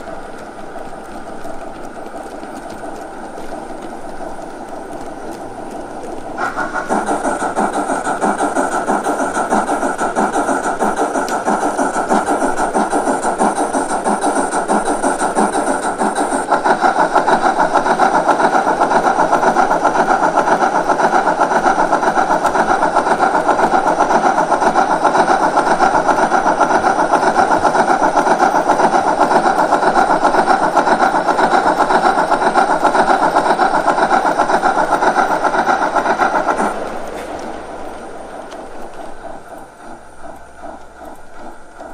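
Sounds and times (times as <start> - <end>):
model steam locomotive chuffing: 0.0 - 41.9.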